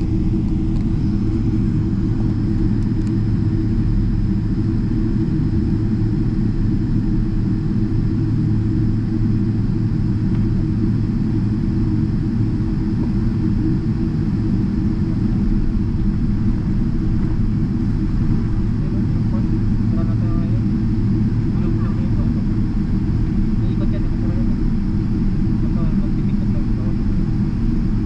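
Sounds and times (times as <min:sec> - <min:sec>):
aircraft cabin low rumble: 0:00.0 - 0:28.0.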